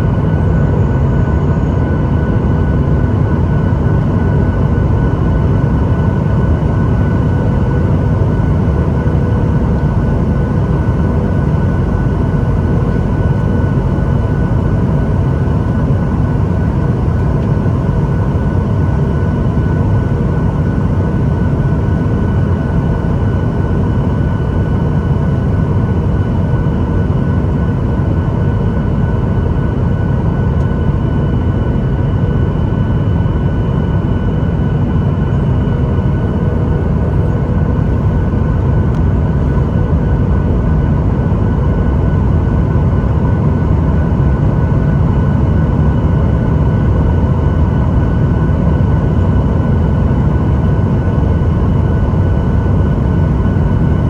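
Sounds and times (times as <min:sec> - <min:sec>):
airliner cabin engine rush: 0:00.0 - 0:54.0
faint steady whine: 0:00.0 - 0:54.0.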